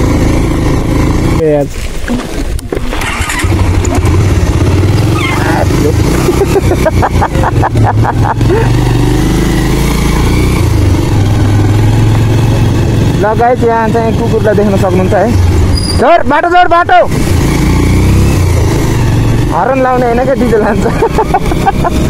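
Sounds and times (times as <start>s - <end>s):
motorcycle engine running: 0.0s - 1.7s, 2.3s - 22.0s.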